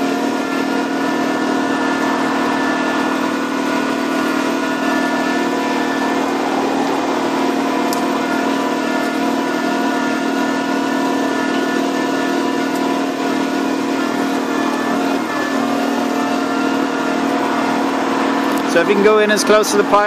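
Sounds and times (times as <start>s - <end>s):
electric tractor motor hum: 0.0s - 20.0s.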